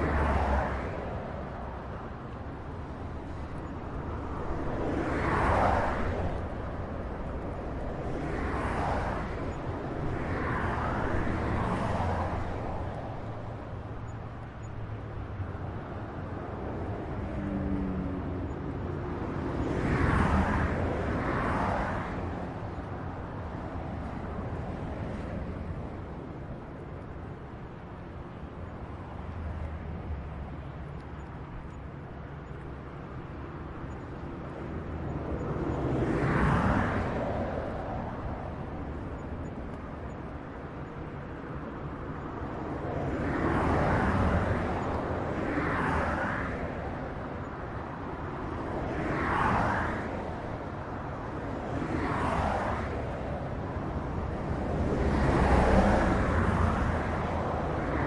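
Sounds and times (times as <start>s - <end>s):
highway traffic rumble: 0.0s - 58.0s
vehicles passing by: 0.0s - 58.0s.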